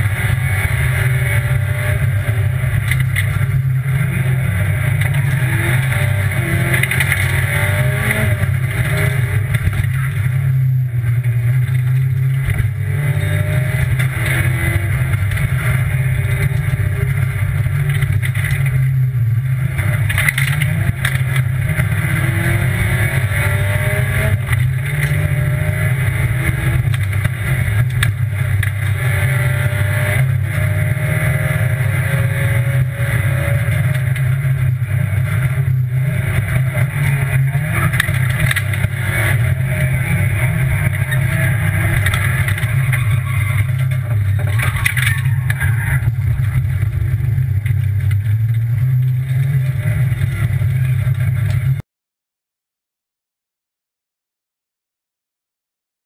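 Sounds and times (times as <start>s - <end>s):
rally car engine revving: 0.0s - 51.8s.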